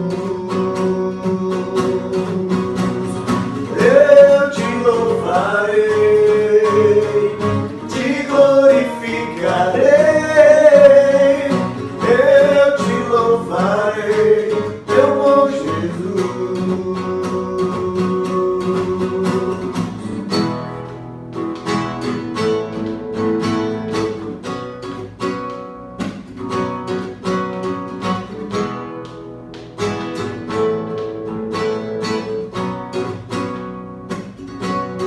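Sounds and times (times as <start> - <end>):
acoustic guitar strumming: 0.0 - 35.0.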